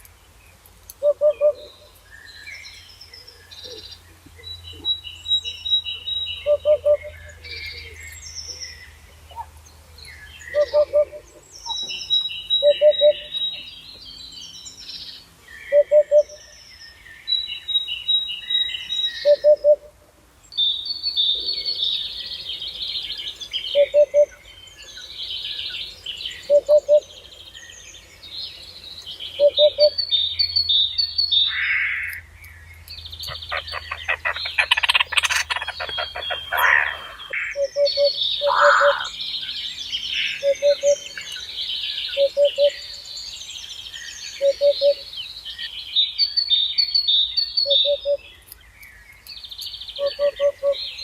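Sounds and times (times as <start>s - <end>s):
birds singing and chirping: 0.0s - 51.0s.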